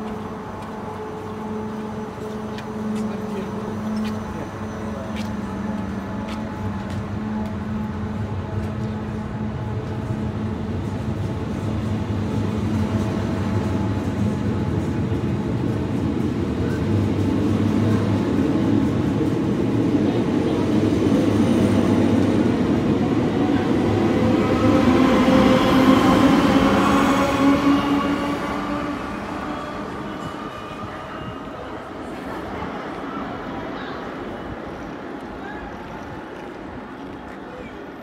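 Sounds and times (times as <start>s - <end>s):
train running noise: 0.0s - 38.0s.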